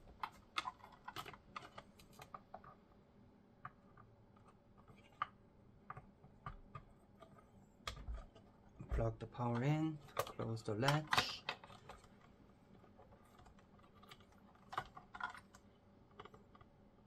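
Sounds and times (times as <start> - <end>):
plastic and metal parts clicking: 0.0 - 2.8, 3.9 - 16.7.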